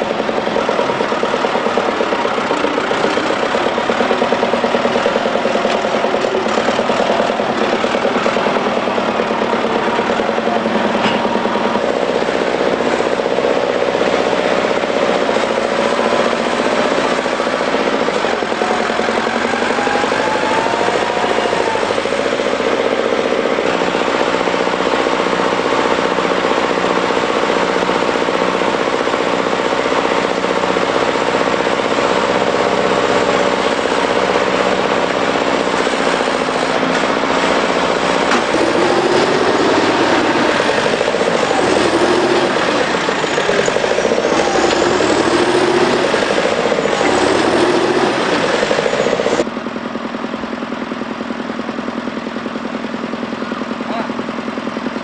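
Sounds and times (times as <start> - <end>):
diesel tractor engine under load: 0.0 - 55.0.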